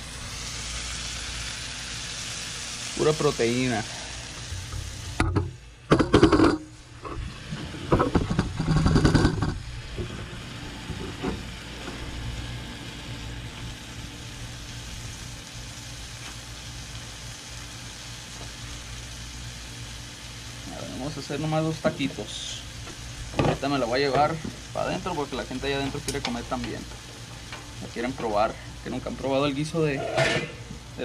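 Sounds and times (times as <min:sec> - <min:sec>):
stew sizzling in skillet: 0:00.0 - 0:31.0.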